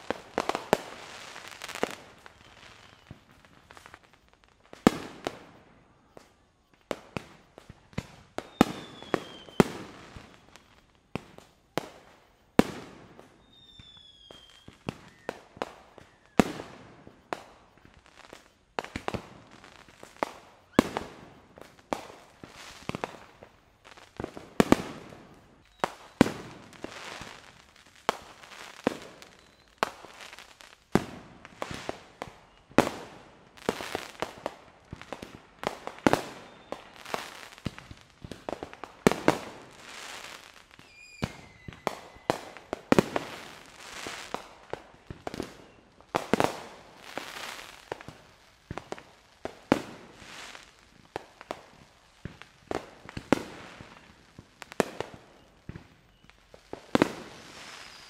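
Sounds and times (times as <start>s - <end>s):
fireworks bursting with bangs: 0.0s - 58.0s.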